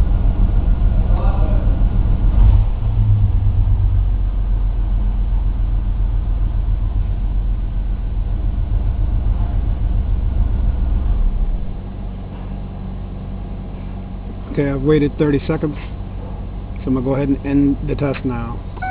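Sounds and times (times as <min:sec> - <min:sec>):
low mechanical hum: 0:00.0 - 0:18.9.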